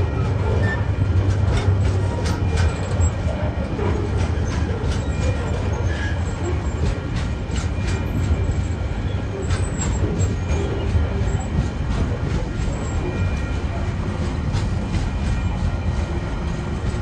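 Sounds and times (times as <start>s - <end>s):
train wheels rumbling on rails: 0.0s - 17.0s
wheels clacking over rail joints: 0.0s - 17.0s.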